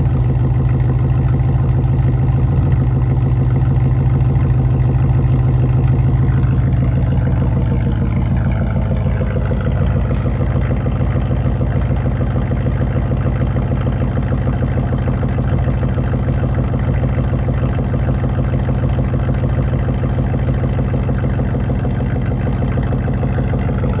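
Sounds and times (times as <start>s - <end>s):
car engine idling loudly: 0.0s - 24.0s.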